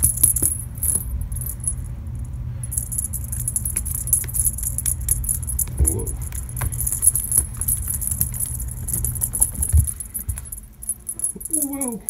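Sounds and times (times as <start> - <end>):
low rumble: 0.0 - 11.6
cat toy jingling and rattling: 0.0 - 12.0.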